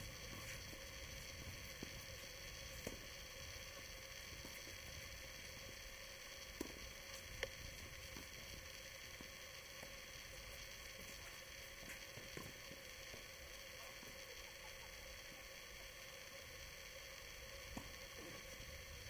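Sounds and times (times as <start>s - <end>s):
microphone hiss: 0.0s - 19.0s.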